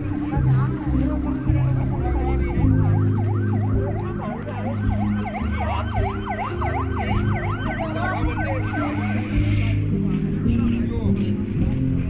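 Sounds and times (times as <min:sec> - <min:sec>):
emergency sirens yelping: 0:00.0 - 0:10.2.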